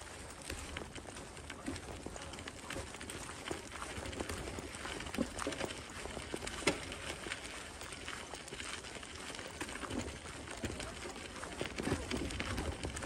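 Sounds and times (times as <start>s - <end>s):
footsteps on gravel and dry leaves: 0.0s - 13.0s.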